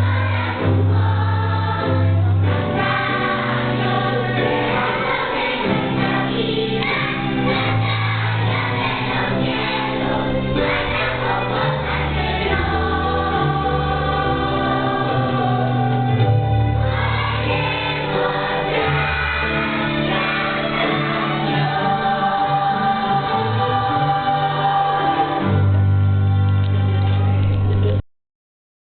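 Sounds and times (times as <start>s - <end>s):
choir singing: 0.0s - 26.1s.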